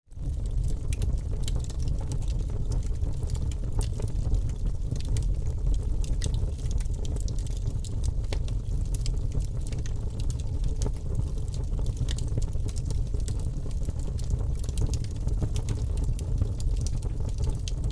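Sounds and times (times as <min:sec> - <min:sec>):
wood fire crackling: 0:00.1 - 0:17.9.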